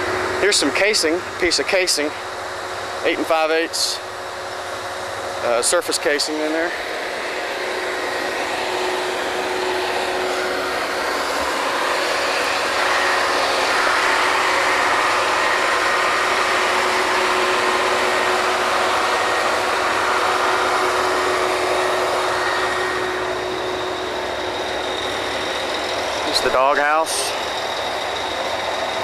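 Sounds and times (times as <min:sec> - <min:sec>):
drilling rig machinery running: 0:00.0 - 0:29.0.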